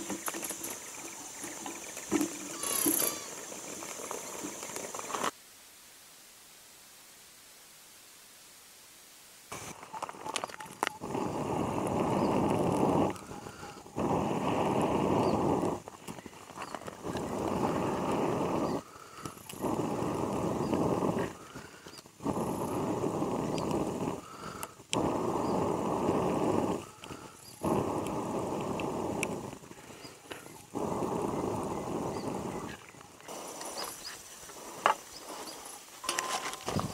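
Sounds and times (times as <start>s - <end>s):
person blowing hard on embers: 0.0s - 5.3s, 10.8s - 36.9s.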